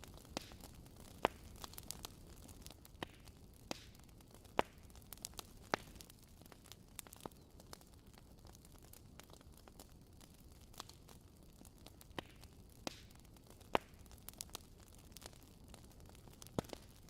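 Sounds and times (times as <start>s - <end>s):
fire crackling and popping: 0.0s - 17.0s
low fire hiss and rumble: 0.0s - 17.0s.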